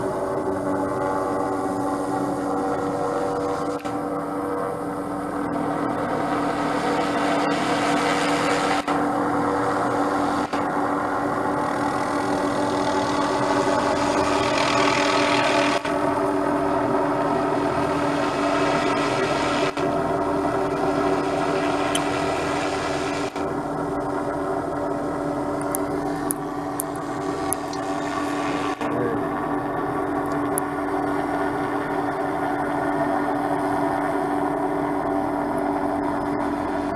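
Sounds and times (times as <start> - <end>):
helicopter turbine whine: 0.0 - 36.9.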